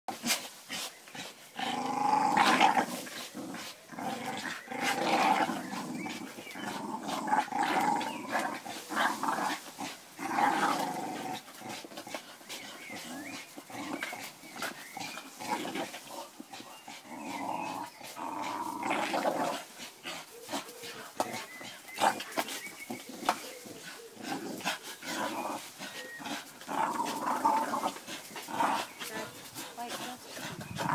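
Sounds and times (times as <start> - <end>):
dogs growling in play: 0.1 - 30.9.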